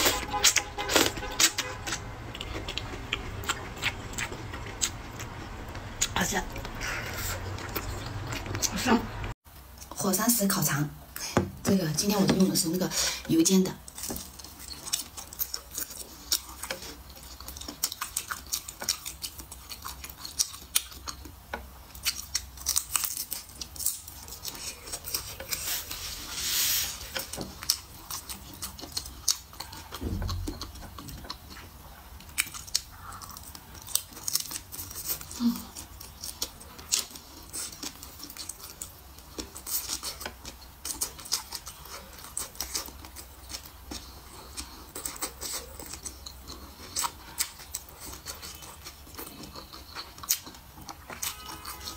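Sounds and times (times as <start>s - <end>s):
chewing with wet mouth clicks: 0.0s - 9.9s, 13.8s - 25.8s, 27.1s - 51.9s.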